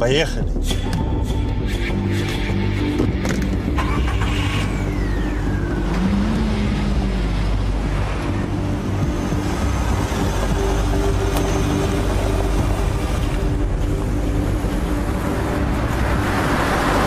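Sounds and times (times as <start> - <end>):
car engine running: 2.2 - 17.0.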